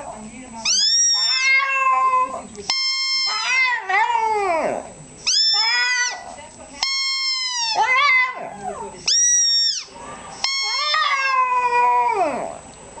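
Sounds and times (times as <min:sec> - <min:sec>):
dog howling: 0:00.7 - 0:06.2, 0:07.2 - 0:12.6.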